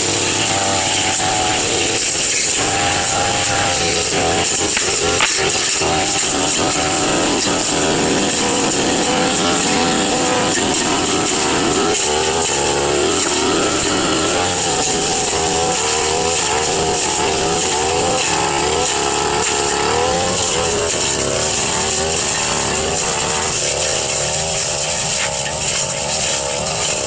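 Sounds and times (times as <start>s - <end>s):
brush cutter engine high revs: 0.0s - 27.0s.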